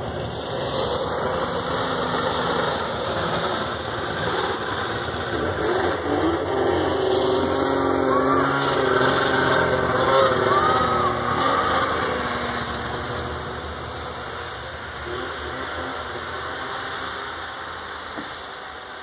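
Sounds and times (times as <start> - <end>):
larger snowmobile approaching: 0.0 - 19.0
small snowmobile passing by: 0.0 - 19.0
snowmobile engines running: 0.0 - 19.0.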